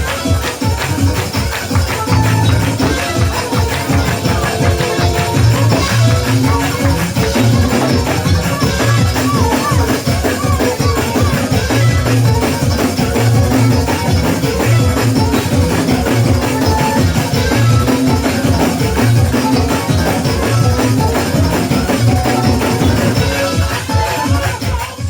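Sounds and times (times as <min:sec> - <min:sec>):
church praise music: 0:00.0 - 0:25.0
drums: 0:00.0 - 0:25.0
tambourine: 0:00.0 - 0:25.0.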